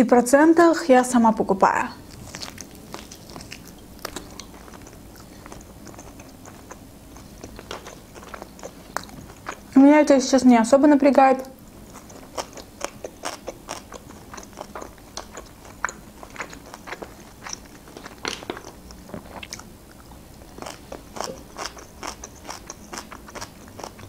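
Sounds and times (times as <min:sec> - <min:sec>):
person chewing crunchy food: 0:02.0 - 0:09.8, 0:11.5 - 0:24.0.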